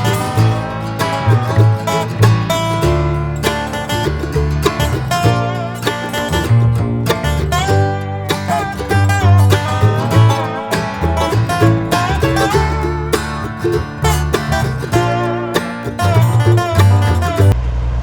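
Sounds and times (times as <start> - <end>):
upbeat bluegrass guitar and banjo: 0.0 - 17.6.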